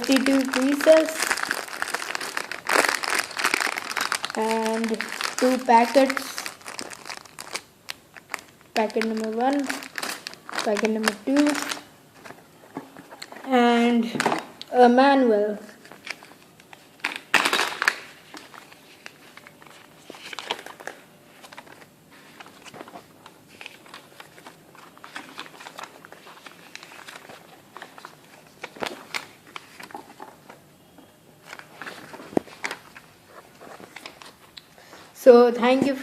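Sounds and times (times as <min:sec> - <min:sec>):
plastic bags and paper crinkling: 0:00.0 - 0:14.5, 0:15.6 - 0:35.7.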